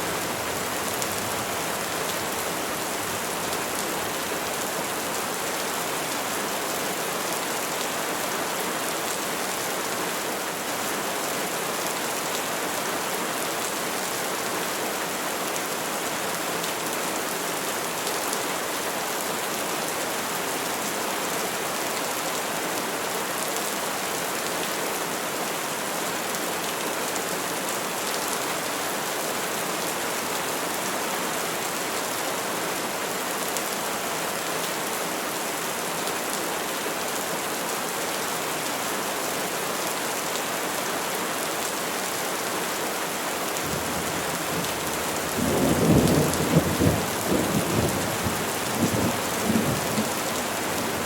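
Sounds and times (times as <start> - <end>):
steady rain falling: 0.0 - 51.0.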